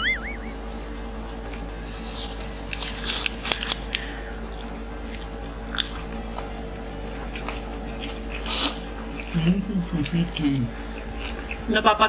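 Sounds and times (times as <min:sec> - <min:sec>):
wet chewing: 0:01.2 - 0:11.7.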